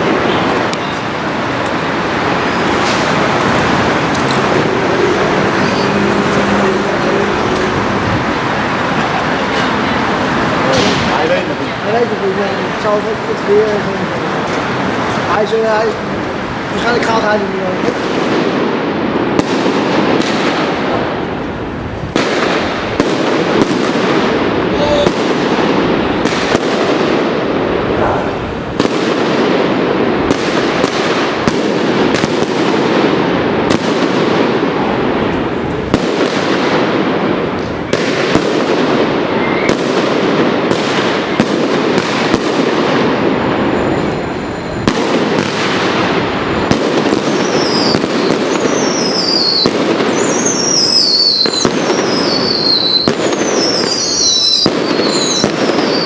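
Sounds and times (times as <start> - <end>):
firecrackers banging: 0.0 - 56.0
whistling fireworks: 0.0 - 56.0.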